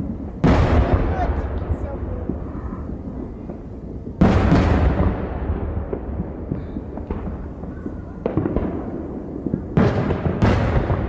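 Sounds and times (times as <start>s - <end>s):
fireworks shell bursting with boom: 0.0s - 2.6s, 3.4s - 11.0s
small firework pops: 0.0s - 11.0s.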